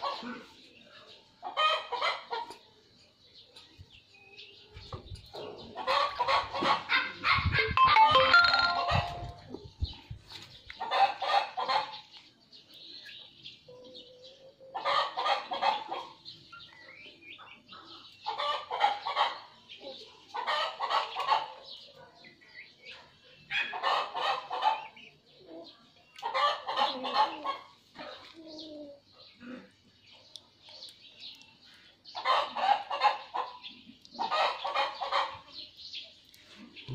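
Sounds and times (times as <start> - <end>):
chicken clucking: 0.0 - 2.8, 4.7 - 9.7, 10.6 - 12.2, 13.7 - 36.9.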